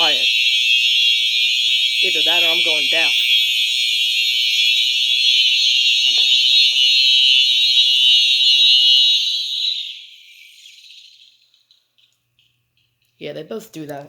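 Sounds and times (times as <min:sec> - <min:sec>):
electronic horn alarm tone: 0:00.0 - 0:11.3.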